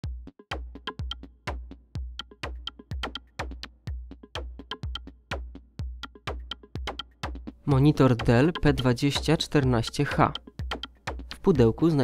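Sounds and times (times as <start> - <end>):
electronic music with drum machine: 0.0 - 12.0.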